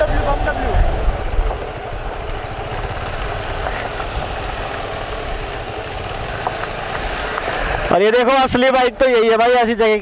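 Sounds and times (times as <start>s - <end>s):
motorcycle engine running: 0.0s - 9.4s
road and wind rumble: 0.0s - 10.0s.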